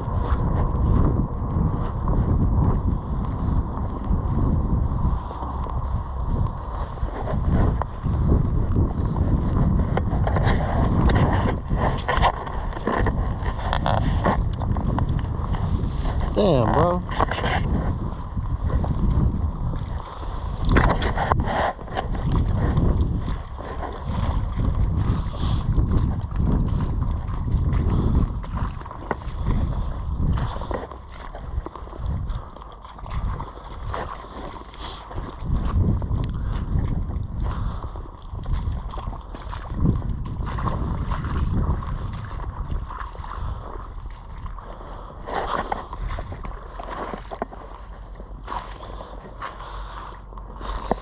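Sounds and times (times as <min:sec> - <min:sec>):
deep pulsing rumble: 0:00.0 - 0:51.0
floodwater sloshing and splashing: 0:00.0 - 0:51.0
wind buffeting microphone: 0:00.0 - 0:51.0.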